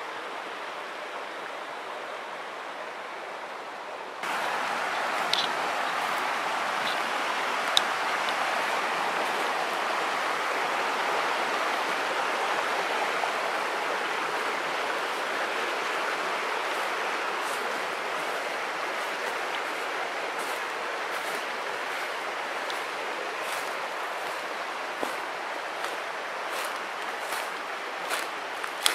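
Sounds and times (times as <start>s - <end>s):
stream rushing over rocks: 0.0s - 28.9s.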